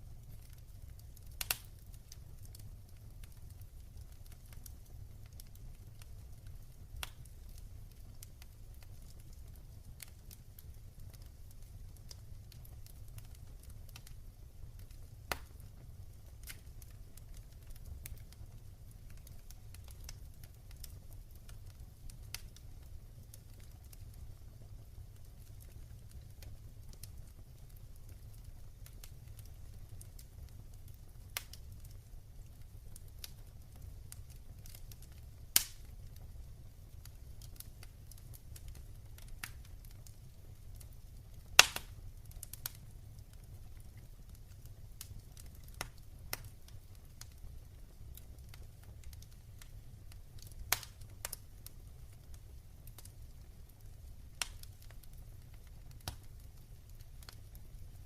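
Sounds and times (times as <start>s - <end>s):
fire flames rumbling: 0.0s - 58.0s
wood fire crackling and popping: 0.0s - 58.0s.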